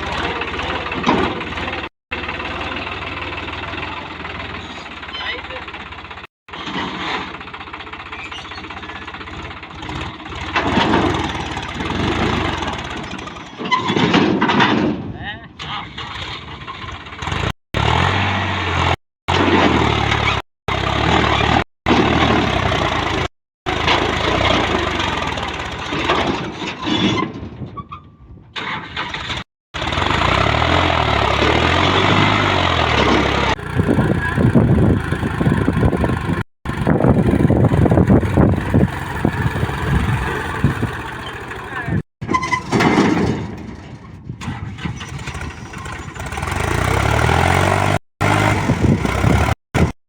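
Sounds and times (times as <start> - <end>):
tractor diesel engine revving: 0.0 - 13.5, 16.1 - 26.3, 29.1 - 42.1, 44.5 - 50.0.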